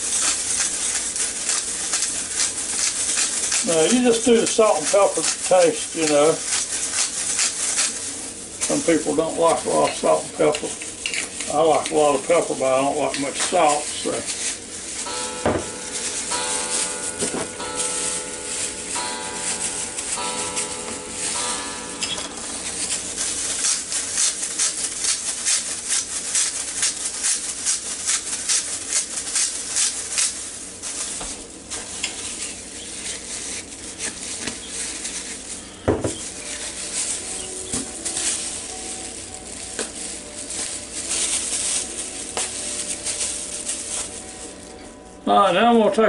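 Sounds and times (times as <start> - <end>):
pepper grinder grinding: 0.0 - 45.1.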